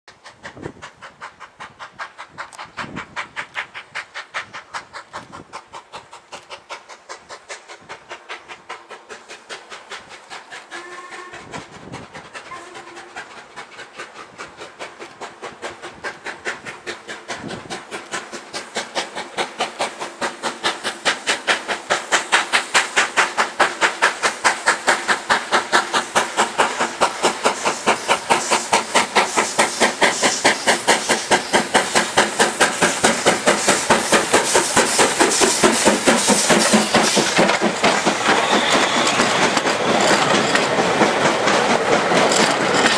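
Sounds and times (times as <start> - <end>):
steam locomotive exhaust beats: 0.1 - 42.9.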